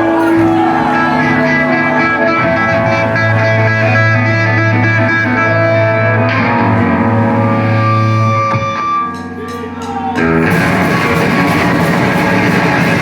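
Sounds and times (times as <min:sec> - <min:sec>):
electric guitars ringing chords: 0:00.0 - 0:13.0.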